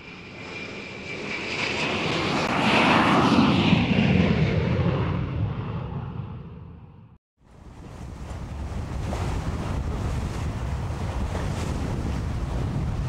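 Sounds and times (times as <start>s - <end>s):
airplane flying by: 0.0s - 13.0s.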